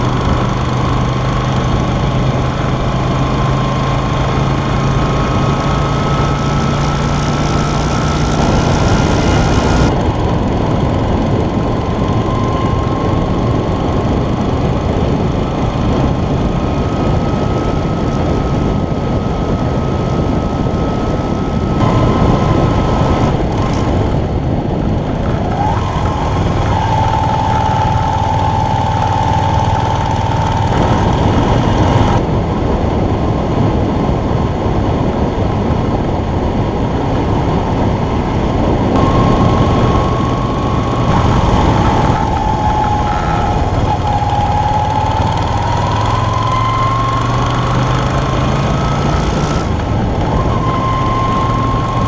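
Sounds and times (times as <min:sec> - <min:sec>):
motorcycle engine running: 0:00.0 - 0:52.0
road noise: 0:00.0 - 0:52.0
wind noise: 0:00.0 - 0:52.0.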